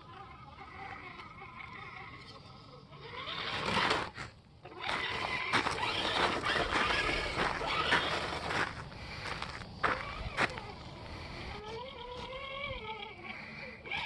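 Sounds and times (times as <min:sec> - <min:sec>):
toy truck electric motor whining: 0:00.0 - 0:14.0.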